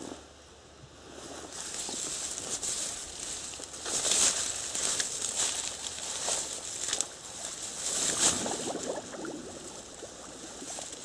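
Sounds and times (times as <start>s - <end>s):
dry reeds rustling and crackling: 1.0s - 11.0s.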